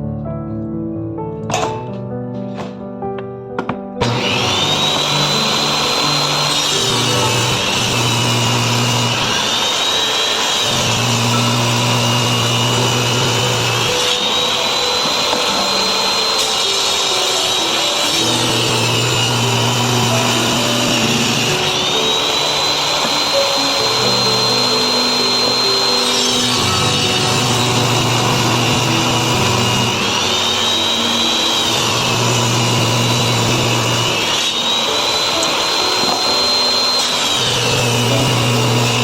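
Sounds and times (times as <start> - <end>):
background music: 0.0 - 39.0
power tool cutting wood: 4.0 - 39.0.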